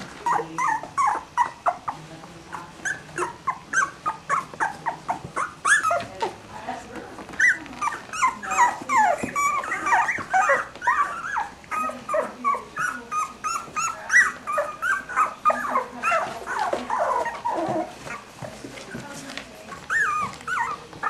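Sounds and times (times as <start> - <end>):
puppies crying: 0.0 - 21.0.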